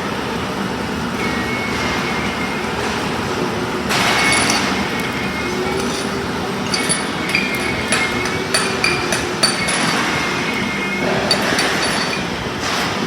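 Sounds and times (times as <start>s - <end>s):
machinery running: 0.5s - 13.0s.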